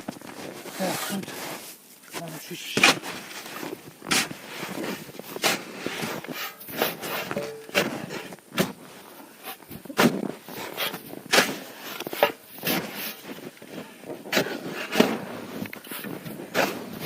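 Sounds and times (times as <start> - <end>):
crunching on snow and ice: 0.0 - 17.0.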